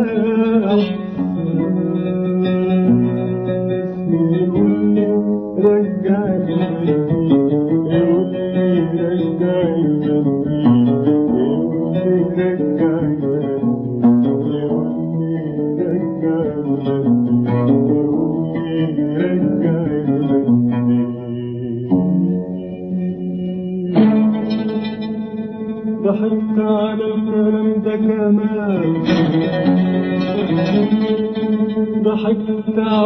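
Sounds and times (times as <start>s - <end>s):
oud plucked melody: 0.0s - 33.0s.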